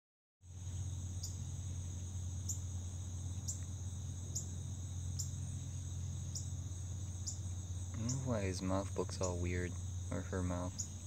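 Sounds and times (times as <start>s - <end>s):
high-pitched insect chorus: 0.4s - 11.0s
low steady hum: 0.4s - 11.0s
sharp insect chirp: 0.4s - 11.0s.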